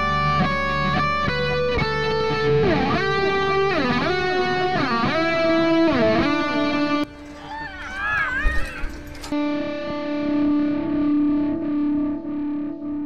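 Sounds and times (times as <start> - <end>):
electric guitar sliding melody: 0.0 - 13.0.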